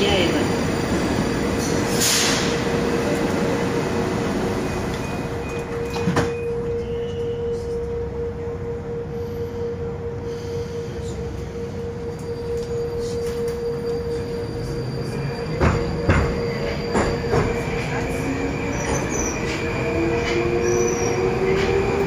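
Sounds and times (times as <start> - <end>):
train electrical hum: 0.0 - 22.0.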